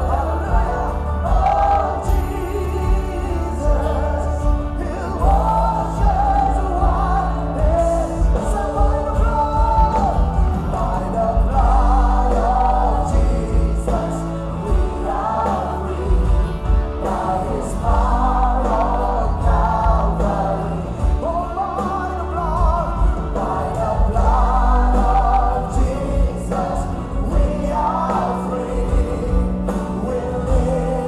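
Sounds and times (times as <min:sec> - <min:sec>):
choir singing gospel song: 0:00.0 - 0:31.0
music with strong bass: 0:00.0 - 0:31.0.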